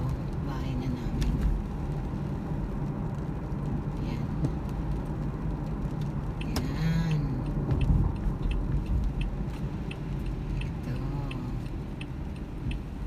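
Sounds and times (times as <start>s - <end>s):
car road and engine noise: 0.0s - 13.0s
turn signal clicking: 0.1s - 13.0s.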